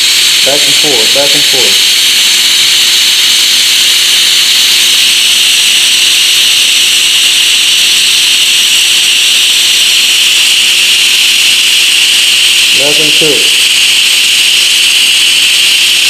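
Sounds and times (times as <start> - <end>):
welding arc hissing: 0.0 - 16.0.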